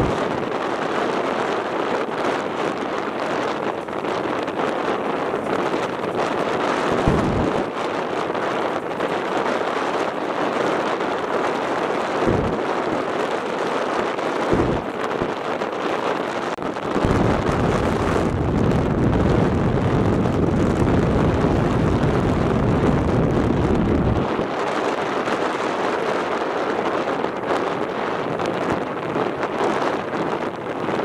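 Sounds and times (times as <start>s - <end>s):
low rumbling wind buffets: 0.0s - 31.0s
wind blowing across microphone: 0.0s - 31.0s.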